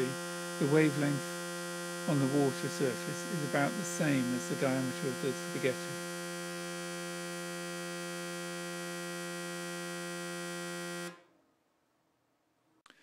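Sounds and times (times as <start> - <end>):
buzzing vibration driver tone: 0.0 - 11.3.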